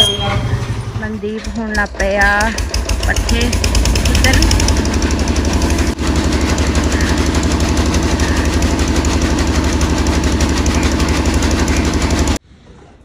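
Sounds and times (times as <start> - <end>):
stationary engine running: 0.0 - 12.4.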